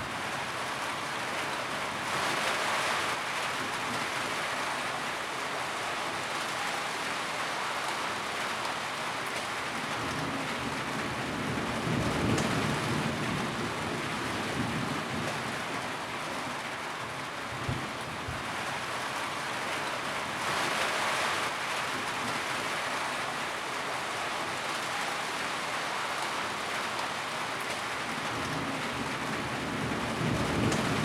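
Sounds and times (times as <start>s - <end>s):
rain drumming on a tin roof: 0.0s - 31.0s.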